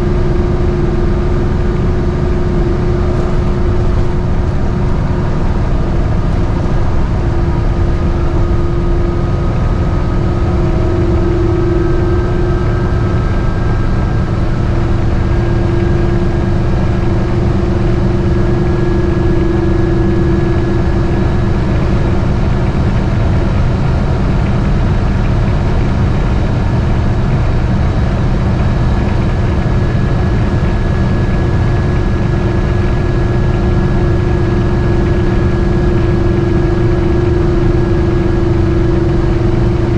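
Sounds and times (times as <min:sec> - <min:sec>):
engine and road drone: 0:00.0 - 0:39.9
faint steady whine: 0:00.0 - 0:39.9.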